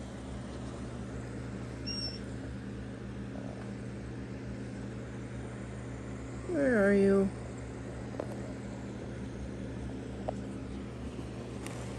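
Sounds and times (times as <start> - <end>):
aquarium pump humming: 0.0 - 11.9.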